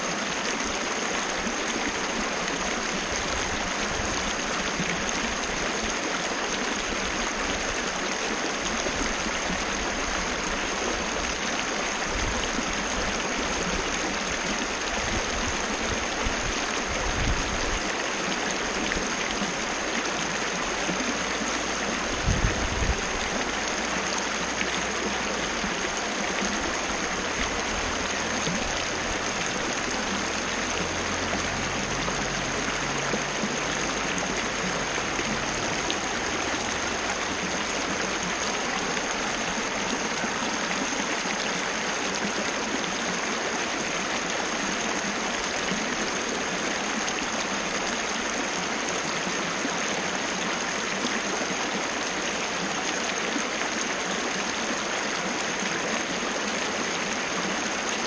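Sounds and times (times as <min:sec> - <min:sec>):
waterfall splashing: 0:00.0 - 0:58.0.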